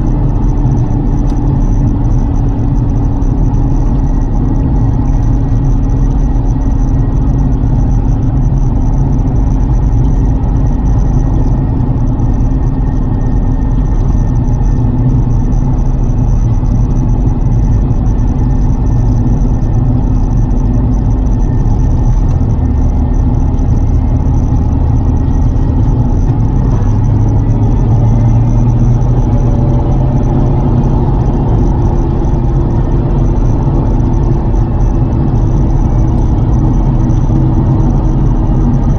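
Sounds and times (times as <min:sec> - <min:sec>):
car engine rumbling: 0:00.0 - 0:38.9
road noise: 0:00.0 - 0:38.9.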